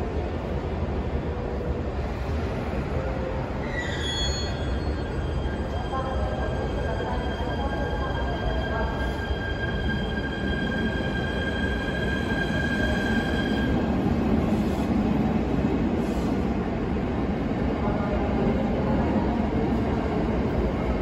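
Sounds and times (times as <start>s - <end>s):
low rumble of train cars: 0.0s - 21.0s.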